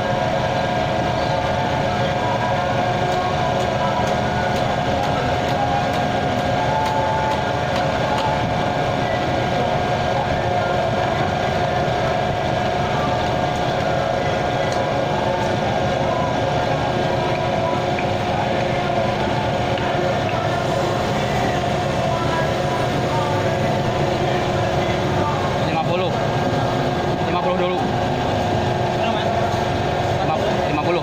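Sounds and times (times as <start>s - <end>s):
heavy machinery engine drone: 0.0s - 31.0s.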